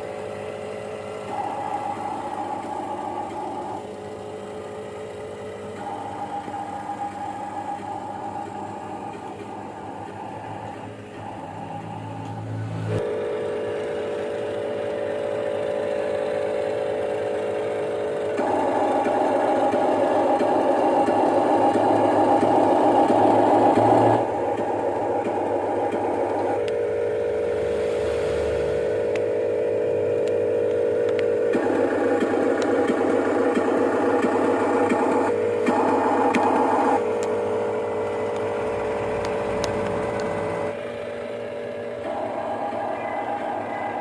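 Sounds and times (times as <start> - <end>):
electric motor whine: 0.0 - 44.0.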